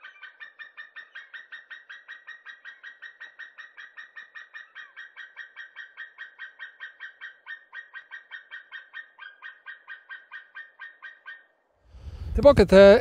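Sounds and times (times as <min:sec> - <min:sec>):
eagle yelping call: 0:00.0 - 0:12.4.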